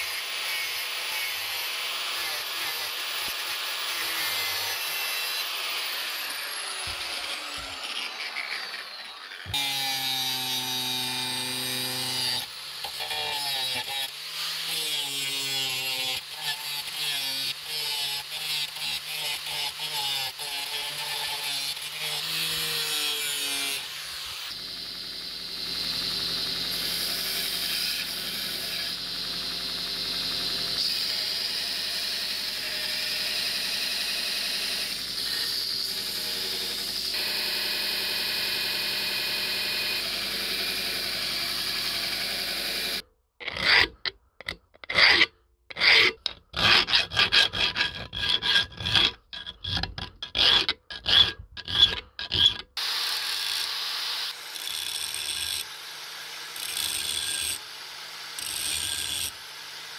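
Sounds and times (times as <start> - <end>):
belt sander grinding steel: 0.0 - 44.1, 44.9 - 59.9
angle grinder grinding metal: 0.0 - 59.9.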